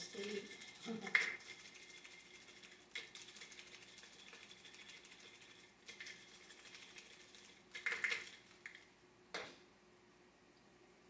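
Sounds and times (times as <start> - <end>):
spice shaker rattling: 0.0 - 8.9.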